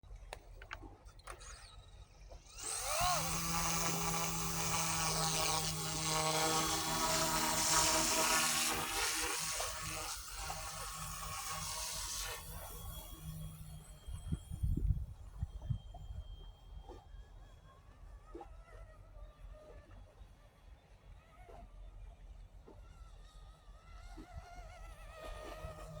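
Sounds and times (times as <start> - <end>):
helicopter motor and rotor hum: 0.6 - 26.0.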